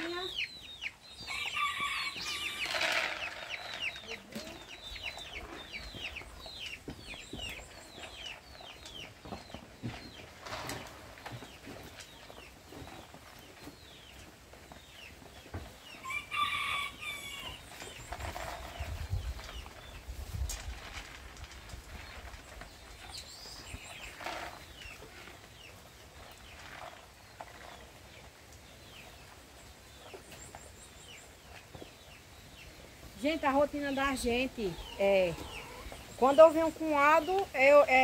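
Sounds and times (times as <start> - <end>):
chickens chirping: 0.0 - 20.1, 22.0 - 38.0.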